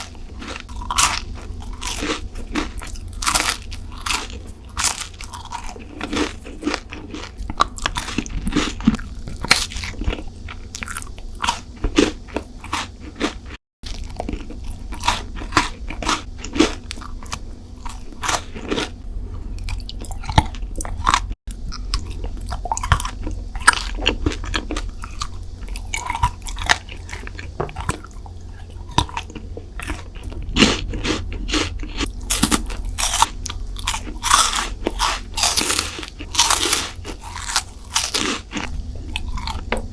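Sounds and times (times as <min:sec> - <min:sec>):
crunchy sweets being eaten: 0:00.0 - 0:39.9
wet chewing: 0:00.0 - 0:39.9.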